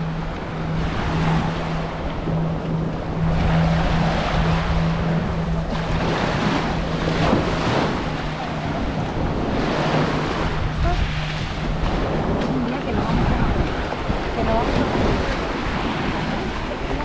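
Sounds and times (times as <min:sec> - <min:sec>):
low hum: 0:00.0 - 0:17.0
sea waves washing on beach: 0:00.0 - 0:17.0
wind buffeting microphone: 0:00.0 - 0:17.0.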